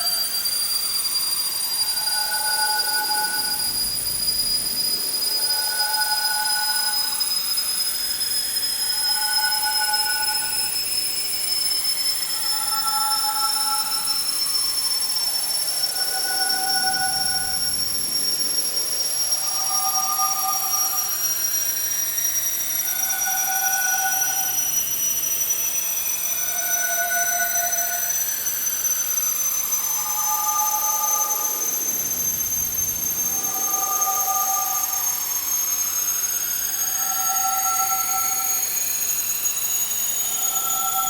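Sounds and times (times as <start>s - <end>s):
spaceship engine whine: 1.5s - 25.0s, 26.0s - 41.0s.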